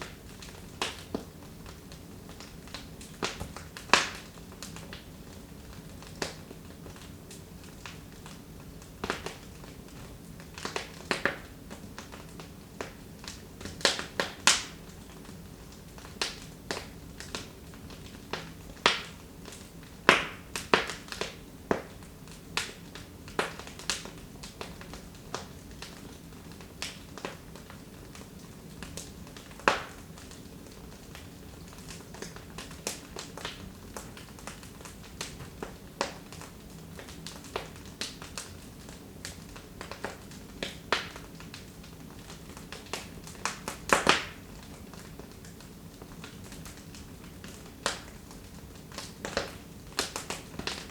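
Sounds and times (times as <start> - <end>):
faint steady background noise: 0.0 - 50.9
wood fire crackling and popping: 0.0 - 50.9.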